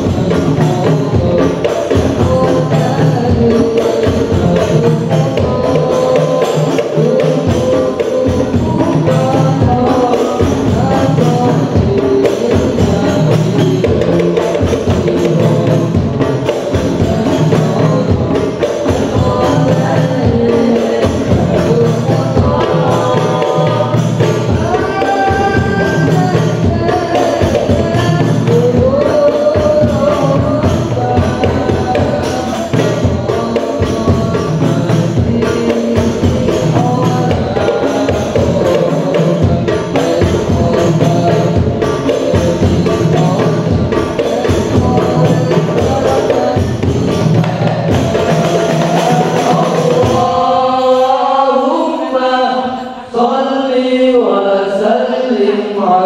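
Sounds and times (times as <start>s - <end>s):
frame drums and bass drum: 0.0s - 51.4s
group singing: 0.0s - 56.0s.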